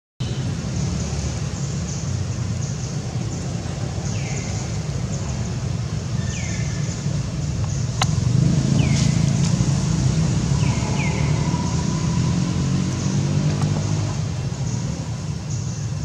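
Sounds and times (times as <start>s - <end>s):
vehicle engine rumbling past: 0.3s - 16.0s.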